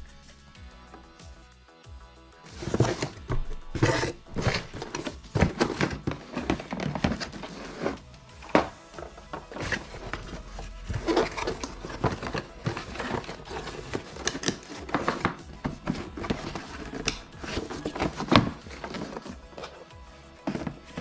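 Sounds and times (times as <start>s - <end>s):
handling noise rubbing and scraping: 2.5s - 21.0s.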